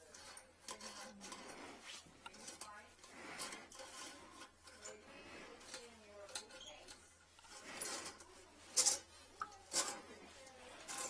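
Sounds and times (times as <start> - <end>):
metal rod scraping in toilet: 0.0 - 11.0.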